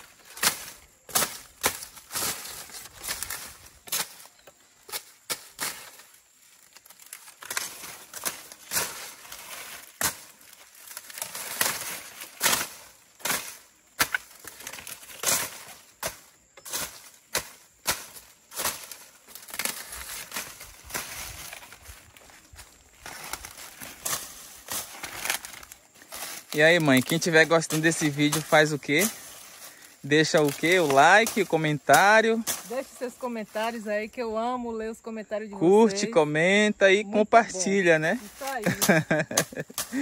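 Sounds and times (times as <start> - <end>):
machete chopping sugarcane: 0.0 - 21.7, 23.0 - 32.8, 38.6 - 40.0
dry leaves rustling: 0.0 - 34.4, 37.6 - 40.0.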